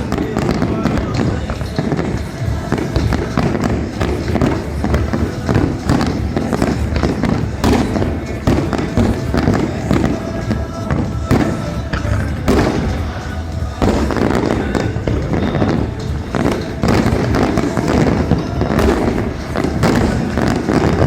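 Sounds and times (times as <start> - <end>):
fireworks bursting: 0.0 - 21.0
music playing: 0.0 - 21.0.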